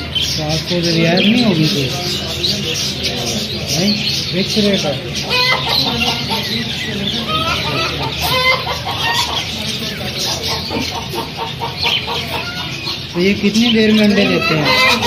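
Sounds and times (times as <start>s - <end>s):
chicken clucking: 0.0s - 15.0s
small birds chirping: 0.0s - 15.0s.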